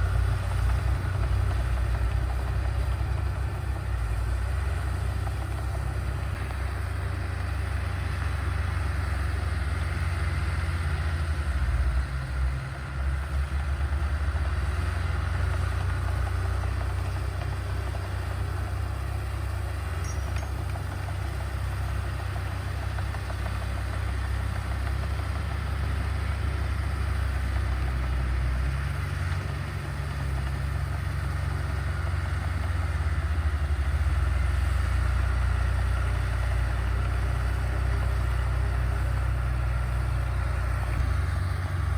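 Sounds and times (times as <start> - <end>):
heavy machinery diesel engines: 0.0 - 41.9.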